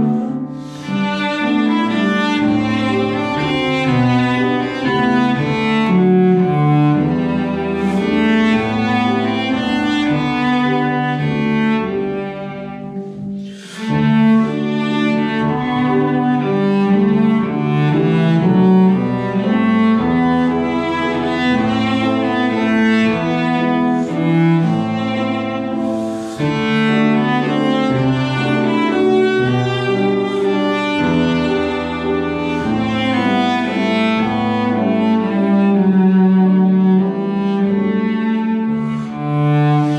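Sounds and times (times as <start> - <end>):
cello melody: 0.0 - 39.9
piano accompaniment: 0.0 - 39.9.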